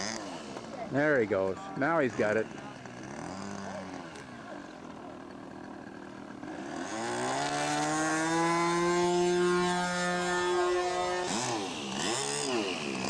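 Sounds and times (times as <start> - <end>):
model plane engine running: 0.0 - 13.0.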